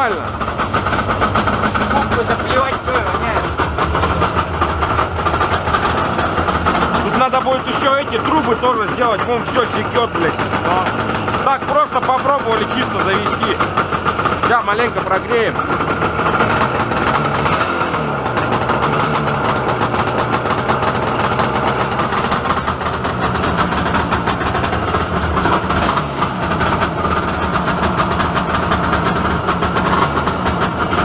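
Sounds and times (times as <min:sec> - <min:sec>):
two-stroke engine idling: 0:00.0 - 0:31.0.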